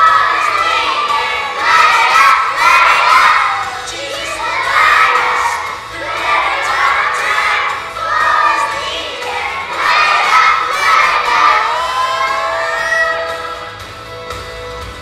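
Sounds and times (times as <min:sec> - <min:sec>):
children singing together: 0:00.0 - 0:13.3.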